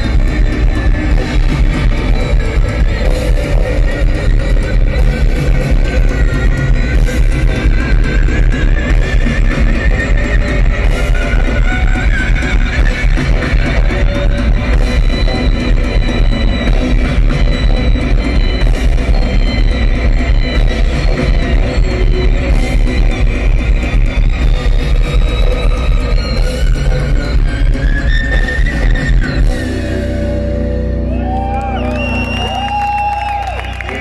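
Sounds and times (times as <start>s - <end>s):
live post-rock band: 0.0s - 34.0s.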